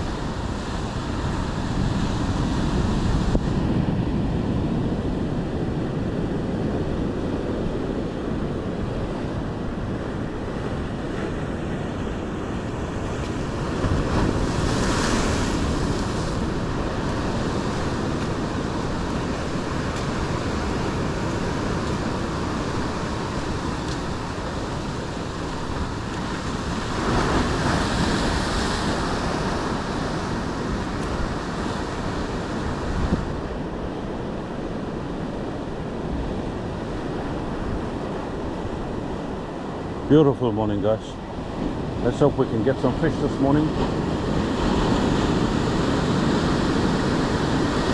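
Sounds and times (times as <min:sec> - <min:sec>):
surf breaking over rocks: 0:00.0 - 0:33.8, 0:34.9 - 0:47.9
wind buffeting microphone: 0:00.0 - 0:40.2.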